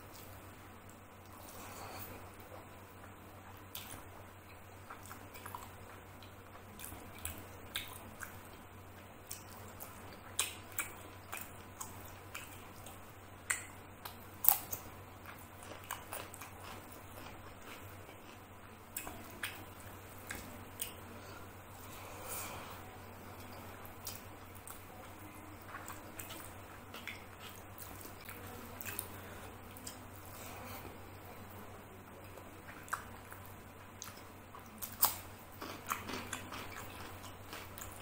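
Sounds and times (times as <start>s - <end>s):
mouth chewing and smacking: 0.9s - 21.0s, 23.4s - 30.4s, 32.2s - 38.0s.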